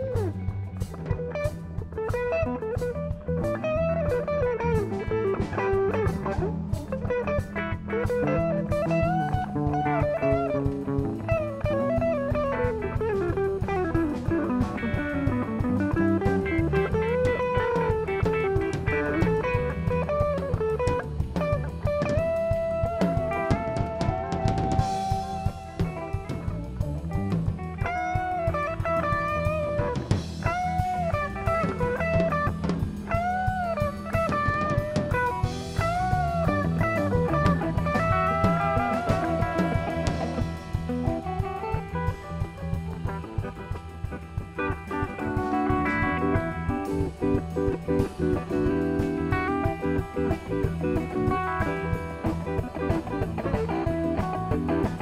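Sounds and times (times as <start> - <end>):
harmonica lead line: 0.0 - 27.2, 27.8 - 55.0
bass guitar: 0.0 - 55.0
drum kit: 0.0 - 55.0
electric guitars: 0.0 - 55.0.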